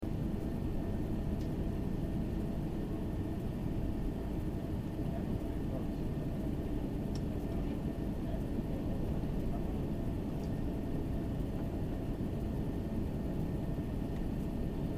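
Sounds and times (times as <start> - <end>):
airplane cabin rumble: 0.0 - 14.9.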